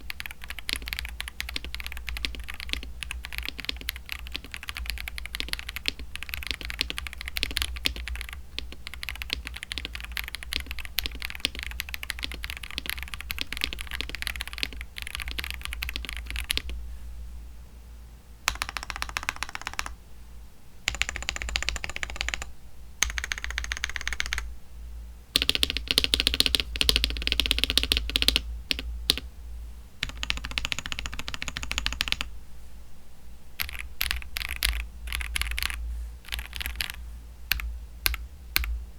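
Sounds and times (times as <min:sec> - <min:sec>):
mechanical keyboard clacking: 0:00.0 - 0:16.7, 0:18.5 - 0:20.0, 0:20.9 - 0:24.5, 0:25.4 - 0:29.3, 0:30.0 - 0:32.3, 0:33.6 - 0:38.8
steady low hum: 0:00.0 - 0:38.9.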